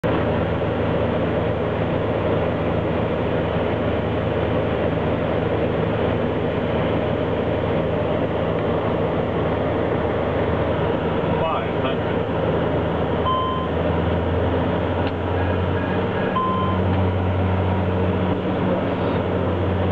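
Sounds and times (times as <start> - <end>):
turboprop engines droning: 0.0 - 19.9.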